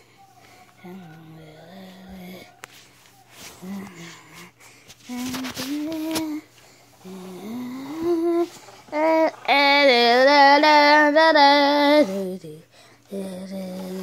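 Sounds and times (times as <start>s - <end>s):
high voice singing wordless tune: 0.7s - 2.6s, 3.3s - 14.0s.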